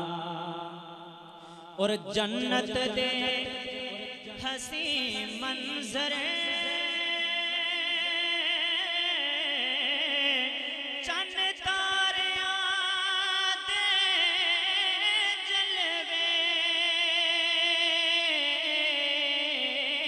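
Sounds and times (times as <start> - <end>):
man singing through loudspeakers: 0.0 - 20.0.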